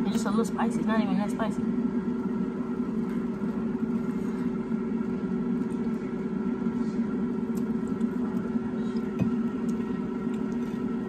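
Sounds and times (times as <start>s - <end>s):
air fryer fan hum: 0.0s - 11.0s.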